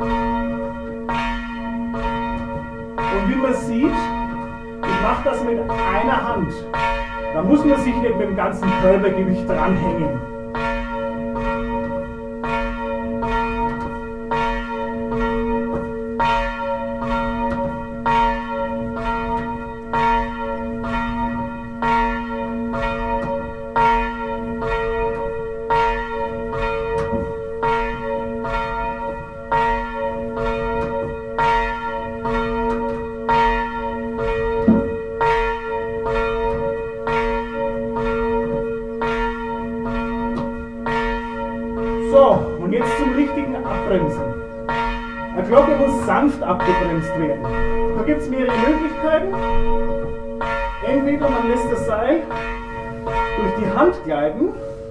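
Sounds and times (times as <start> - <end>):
church bell ringing: 0.0 - 54.9.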